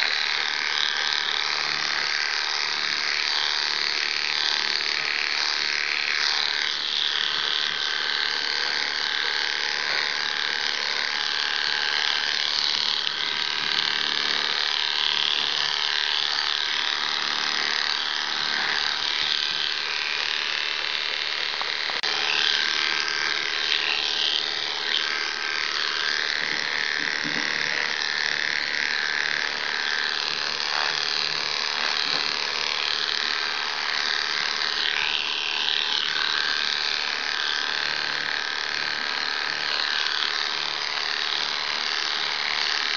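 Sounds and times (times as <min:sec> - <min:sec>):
electric clippers motor hum: 0:00.0 - 0:42.9.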